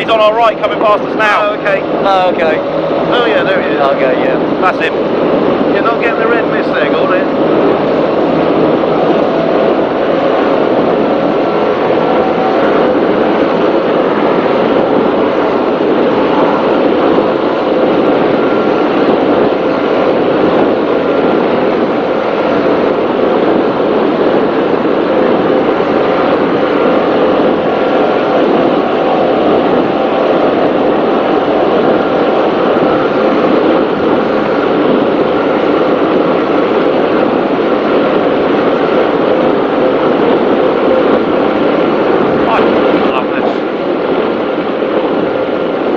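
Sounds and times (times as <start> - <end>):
powerboat engines: 0.0 - 45.9
water rushing past hull: 0.0 - 45.9
wind rushing: 0.0 - 45.9.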